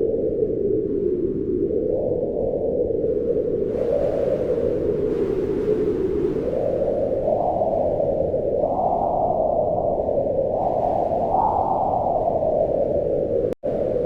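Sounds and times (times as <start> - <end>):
faint high wind whistle: 0.0 - 14.0
wind rushing in gusts: 0.0 - 14.0.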